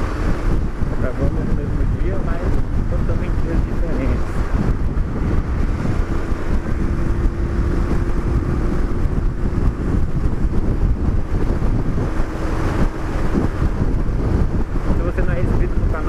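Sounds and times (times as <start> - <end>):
motorcycle engine running: 0.0 - 16.0
steady hum: 0.0 - 16.0
wind buffeting microphone: 0.0 - 16.0.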